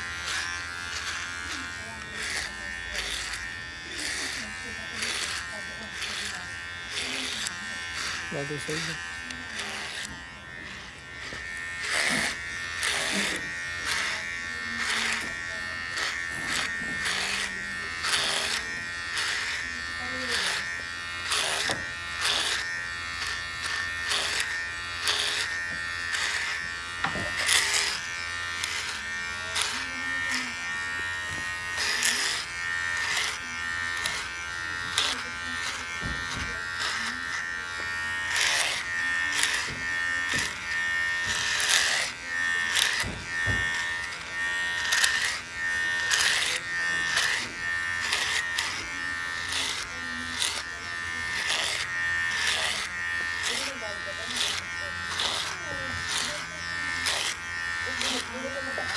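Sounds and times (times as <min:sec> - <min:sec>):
clipper blades rasping through hair: 0:00.0 - 0:58.9
electric hair clippers buzzing: 0:00.0 - 0:58.9.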